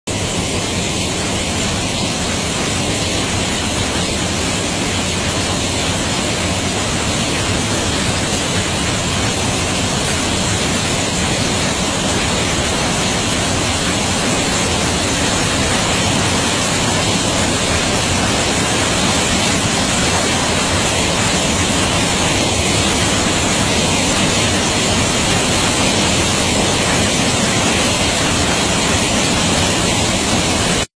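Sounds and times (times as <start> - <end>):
floodwater rushing over rocks: 0.1 - 30.9.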